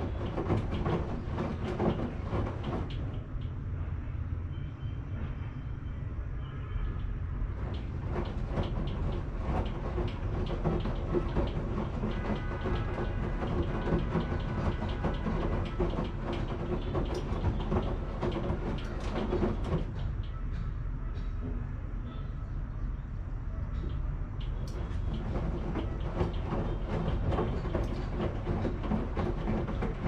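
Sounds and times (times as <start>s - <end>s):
washing machine rumbling: 0.0s - 3.7s, 7.0s - 30.0s.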